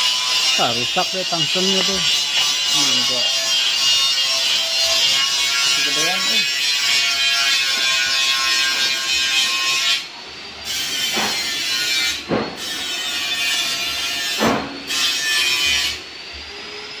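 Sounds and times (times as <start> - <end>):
welding arc hissing: 0.0 - 16.0.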